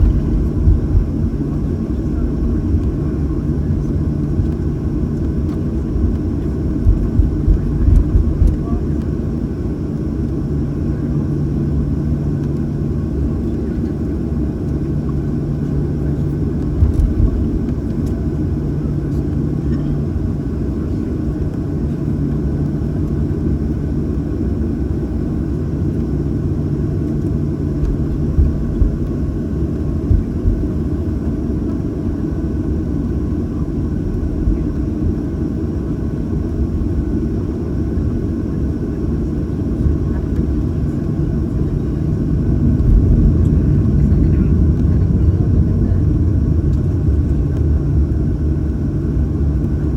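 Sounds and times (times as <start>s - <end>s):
jet engines idling in cabin: 0.0s - 49.9s.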